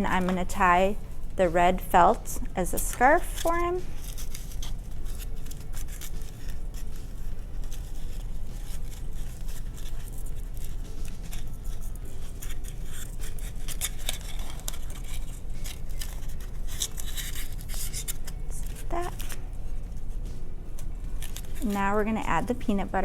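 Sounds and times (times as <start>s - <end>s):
felt rustling and scraping: 0.0s - 23.0s
steady low hum: 0.0s - 23.0s.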